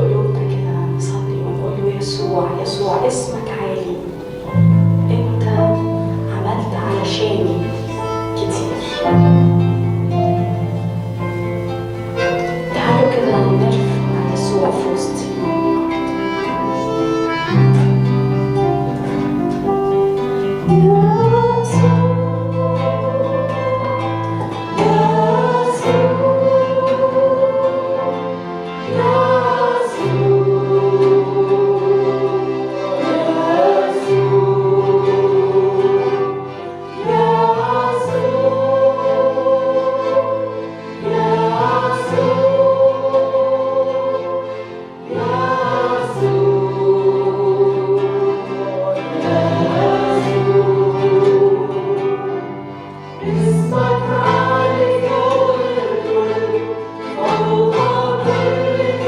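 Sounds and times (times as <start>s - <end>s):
voices singing worship song: 0.0s - 59.0s.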